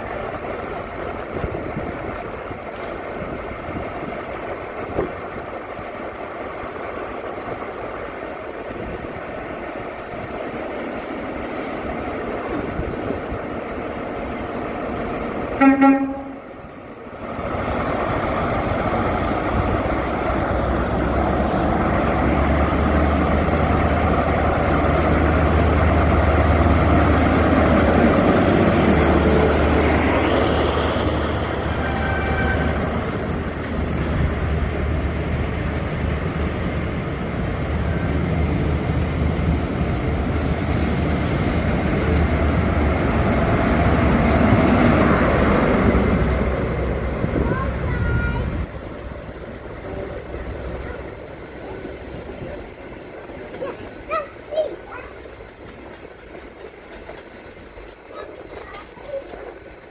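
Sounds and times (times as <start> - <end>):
train diesel engines droning: 0.0 - 59.9
train wheel and carriage noise: 0.0 - 59.9.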